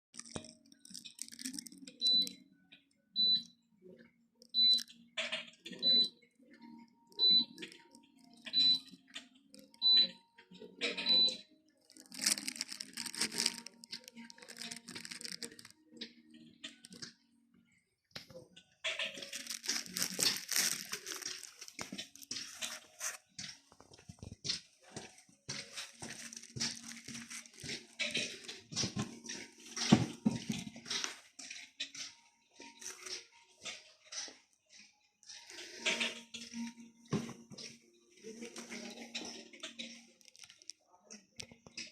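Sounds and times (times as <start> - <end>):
crackling noise: 0.0 - 3.6, 4.4 - 41.9.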